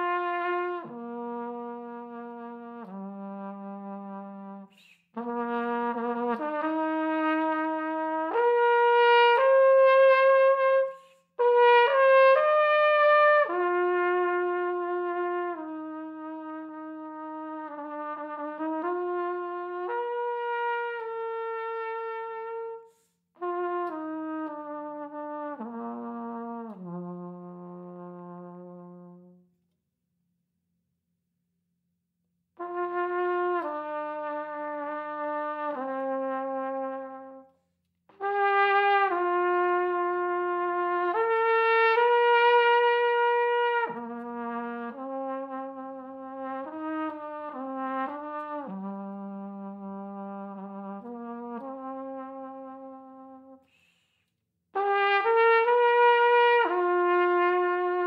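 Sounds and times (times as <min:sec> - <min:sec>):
flugelhorn playing slow notes: 0:00.0 - 0:29.6, 0:32.6 - 0:53.8, 0:54.8 - 0:58.0.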